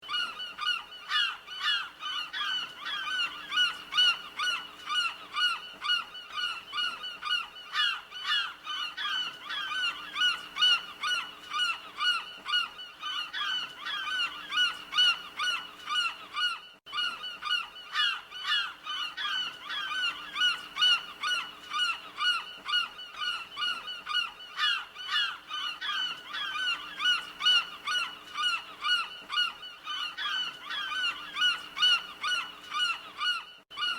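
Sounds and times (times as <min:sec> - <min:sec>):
seagulls calling: 0:00.0 - 0:33.9.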